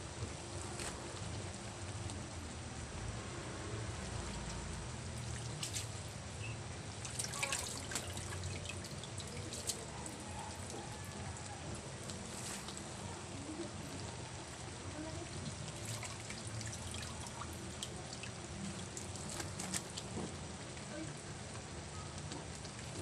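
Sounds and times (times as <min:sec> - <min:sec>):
broth bubbling in a pot: 0:00.0 - 0:23.0.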